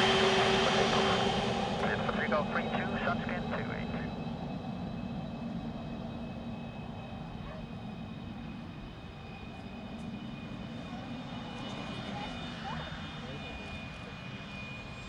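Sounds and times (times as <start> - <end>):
jet engines whining at low power: 0.0 - 15.0.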